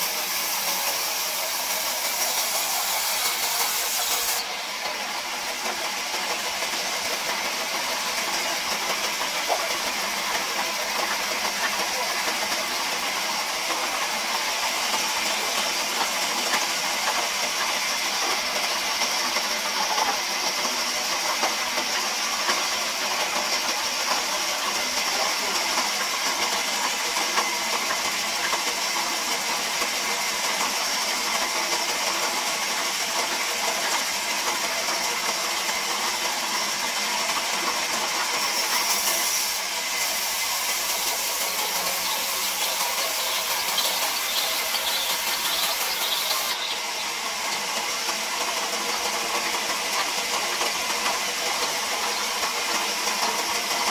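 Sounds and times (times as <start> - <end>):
band saw cutting timber: 0.0 - 28.6, 31.4 - 48.9.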